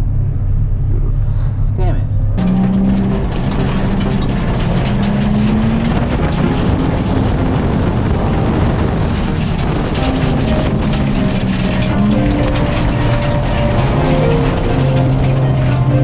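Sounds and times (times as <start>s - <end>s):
car engine at high revs: 2.4s - 16.0s
tyre and wind noise: 2.4s - 16.0s.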